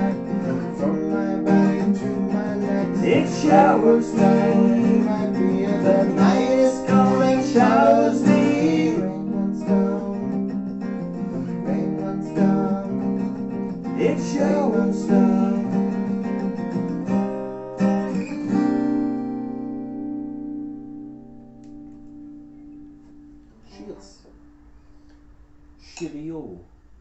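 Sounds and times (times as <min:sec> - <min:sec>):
acoustic guitars strumming chords: 0:00.0 - 0:25.9.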